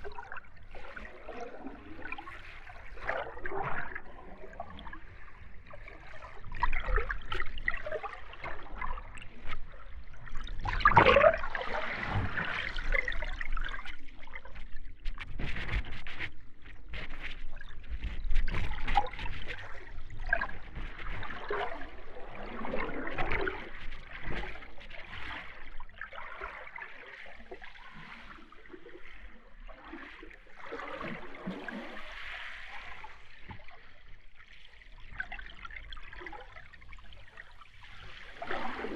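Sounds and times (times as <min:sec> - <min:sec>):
water bubbling and gurgling: 0:00.0 - 0:15.6, 0:17.4 - 0:38.9.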